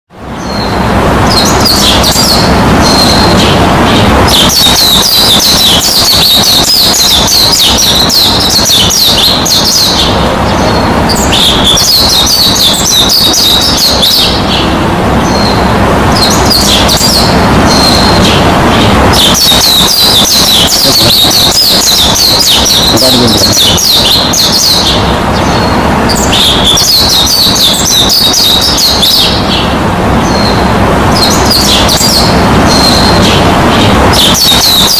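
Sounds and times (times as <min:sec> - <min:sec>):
birds chirping and twittering: 0:00.1 - 0:34.9
low background noise: 0:00.1 - 0:34.9.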